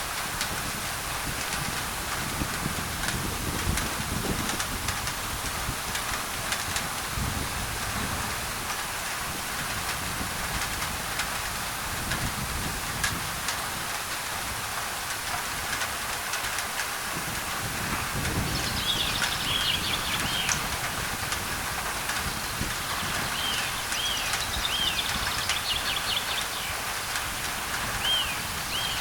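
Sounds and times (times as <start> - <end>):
rain on a tin roof: 0.0 - 29.0.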